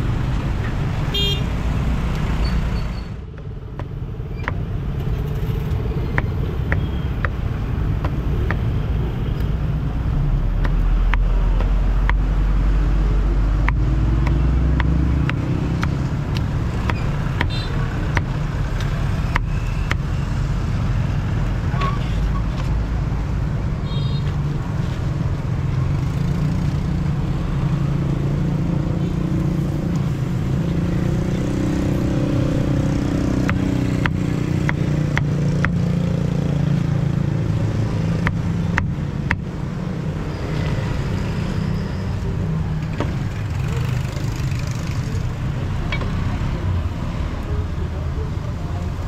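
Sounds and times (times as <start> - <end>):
street traffic: 0.0 - 49.0.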